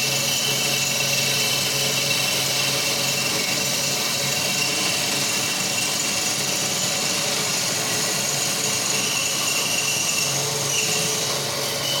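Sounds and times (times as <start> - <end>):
lathe running with high whine: 0.0 - 12.0.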